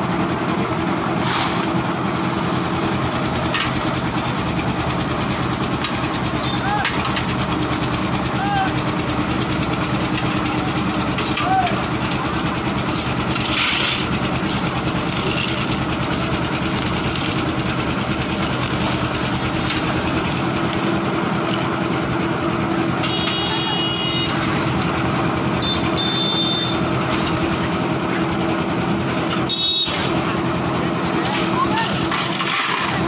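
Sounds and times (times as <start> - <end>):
concrete mixer engine running: 0.0 - 33.0.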